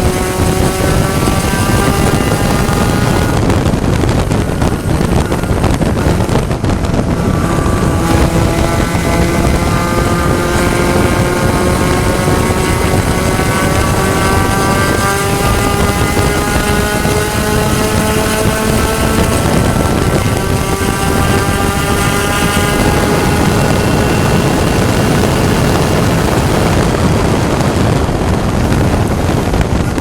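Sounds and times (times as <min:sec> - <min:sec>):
race car engine accelerating: 0:00.0 - 0:30.0
wind rushing over microphone: 0:00.0 - 0:30.0.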